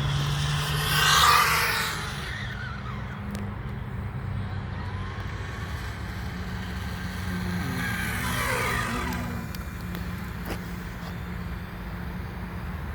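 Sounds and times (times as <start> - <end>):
rc car motor whining past: 0.0 - 11.8.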